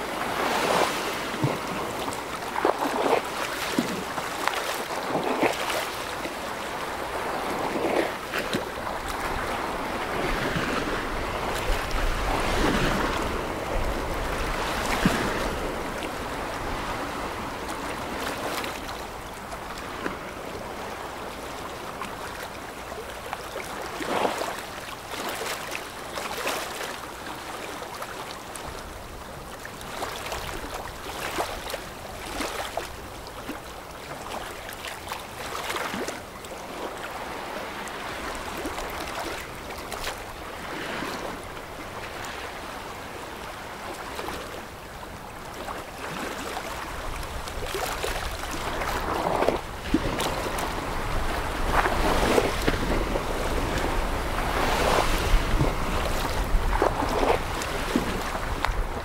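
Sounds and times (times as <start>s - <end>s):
water rushing along ship's hull: 0.0s - 59.0s.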